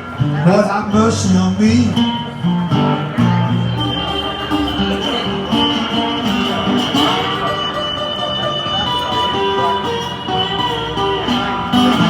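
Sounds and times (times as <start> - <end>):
blues on acoustic guitar: 0.0 - 12.0.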